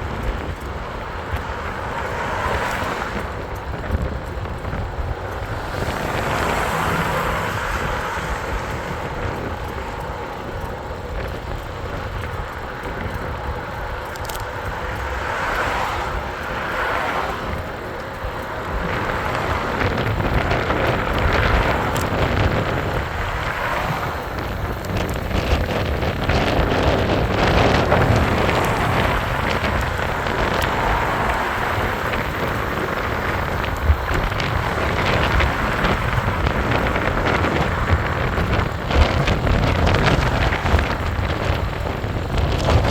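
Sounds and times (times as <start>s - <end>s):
road noise rumble: 0.0s - 42.9s
wind rushing over microphone: 0.0s - 42.9s.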